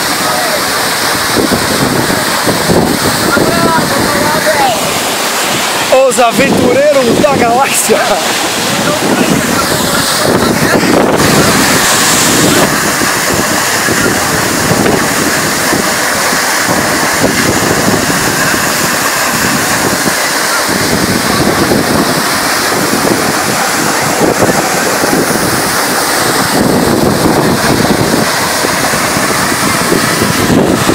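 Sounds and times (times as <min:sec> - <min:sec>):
waterfall rushing: 0:00.0 - 0:30.9
wind buffeting microphone: 0:00.0 - 0:30.9.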